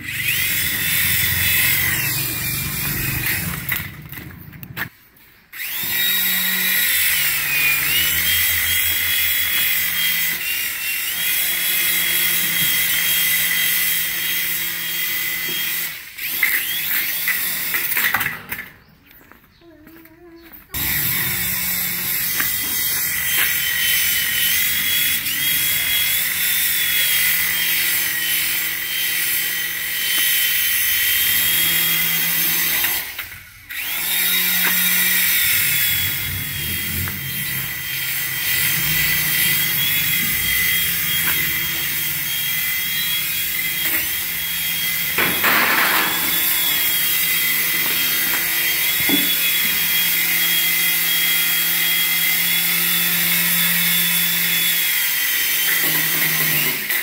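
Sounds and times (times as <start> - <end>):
toy helicopter rotor whine: 0.0 - 4.5, 5.5 - 18.7, 20.7 - 57.0.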